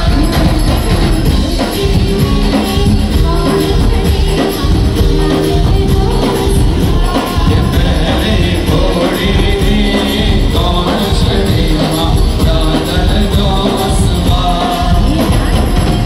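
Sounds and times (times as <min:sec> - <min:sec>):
band playing dance beat: 0:00.0 - 0:16.0
person singing: 0:00.0 - 0:16.0.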